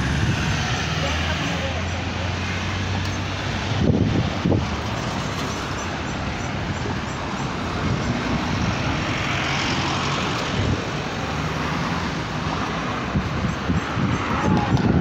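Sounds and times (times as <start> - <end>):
small car passing: 0.0 - 15.0.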